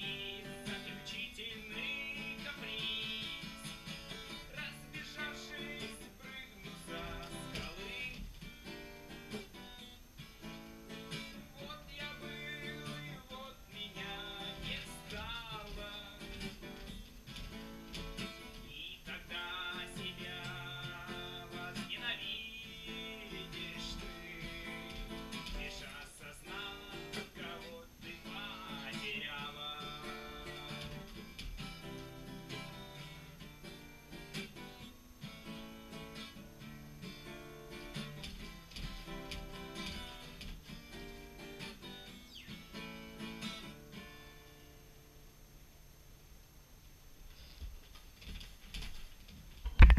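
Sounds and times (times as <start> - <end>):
acoustic guitar strumming: 0.0 - 45.4.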